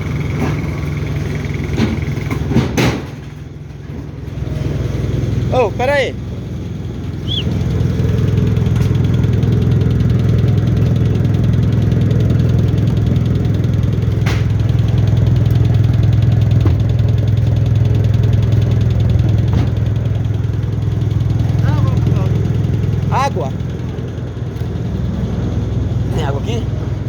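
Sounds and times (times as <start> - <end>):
heavy engine running: 0.0 - 27.0.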